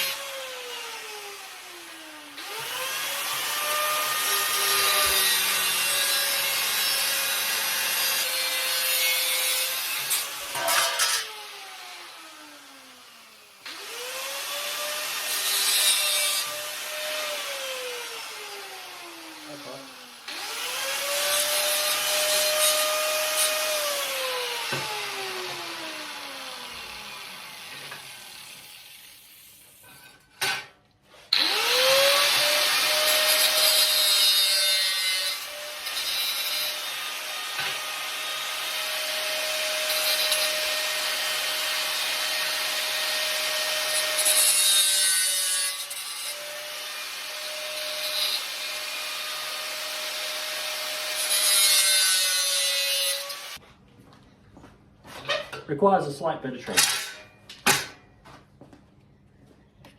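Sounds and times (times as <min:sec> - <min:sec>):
angle grinder cutting steel: 0:00.0 - 0:30.6, 0:31.2 - 0:53.6, 0:56.7 - 0:58.0.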